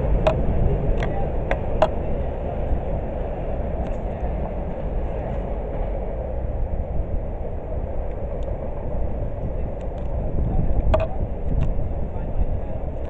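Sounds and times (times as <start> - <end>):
freight train rumbling on track: 0.0 - 13.0.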